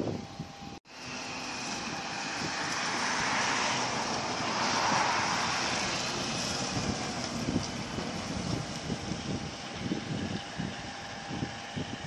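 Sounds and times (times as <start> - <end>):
tractor engine driving past: 0.2 - 12.0.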